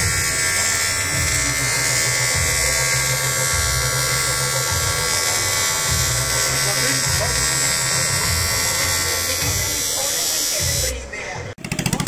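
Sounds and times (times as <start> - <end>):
electric welding arc buzzing: 0.0 - 11.1.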